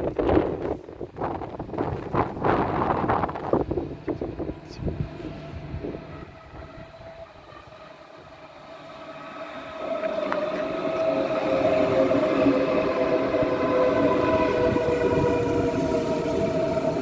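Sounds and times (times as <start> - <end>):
electric train whine: 0.0 - 17.0
train low rumble: 0.0 - 17.0.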